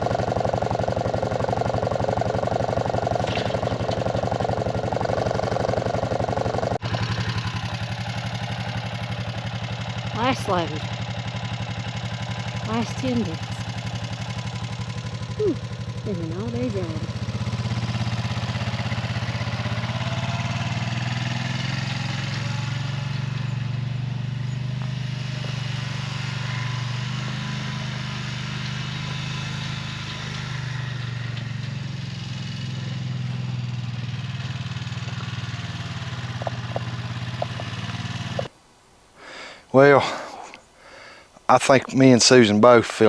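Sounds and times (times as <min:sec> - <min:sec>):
vehicle engine running: 0:00.0 - 0:38.6, 0:41.5 - 0:43.0.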